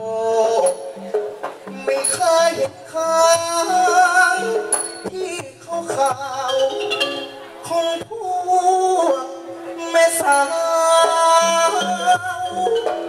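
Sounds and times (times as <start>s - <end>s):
percussion strokes: 0.0s - 13.0s
person singing into a microphone: 0.0s - 13.0s
xylophone: 0.4s - 8.7s, 9.8s - 13.0s.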